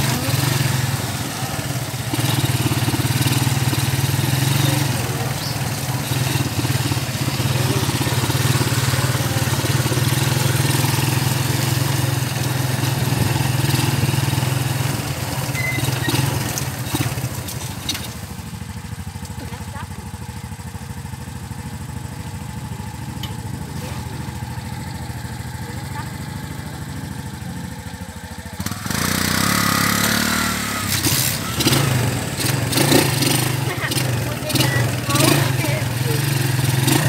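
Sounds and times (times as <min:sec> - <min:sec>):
motorcycle engine droning: 0:00.0 - 0:37.0
road and wind noise: 0:00.0 - 0:37.0.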